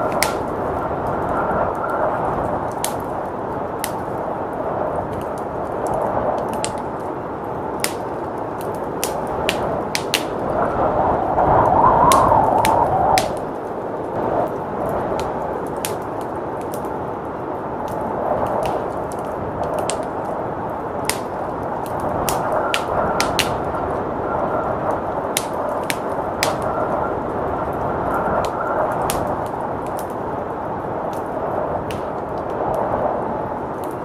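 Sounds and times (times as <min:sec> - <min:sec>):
blizzard wind: 0:00.0 - 0:34.0
wood fire crackling and popping: 0:00.0 - 0:34.0.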